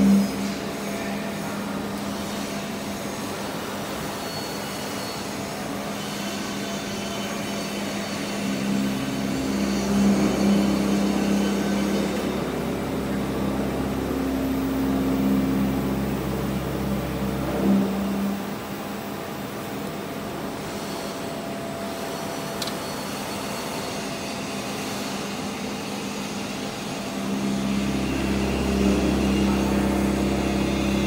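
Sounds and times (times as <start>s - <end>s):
mechanical hum droning: 0.0s - 31.0s.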